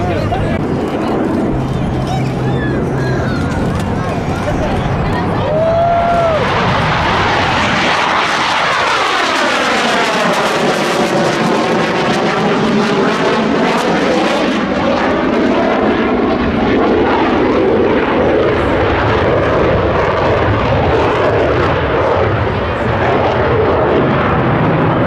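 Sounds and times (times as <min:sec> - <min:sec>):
aircraft engine roar flyby: 0:00.0 - 0:25.0.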